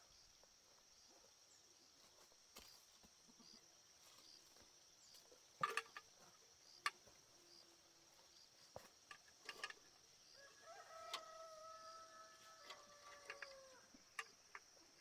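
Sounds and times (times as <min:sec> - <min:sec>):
faint insect chirring: 0:00.0 - 0:15.0.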